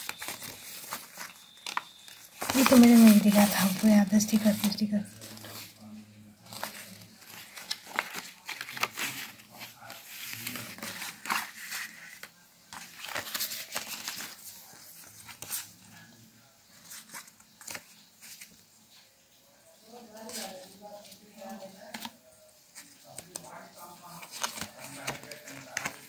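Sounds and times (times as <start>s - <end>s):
paper and card rustling: 0.0s - 19.0s, 20.1s - 26.0s.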